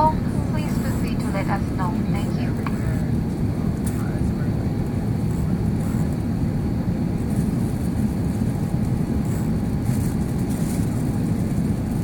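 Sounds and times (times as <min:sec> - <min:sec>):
aircraft cabin engine roar: 0:00.0 - 0:12.0.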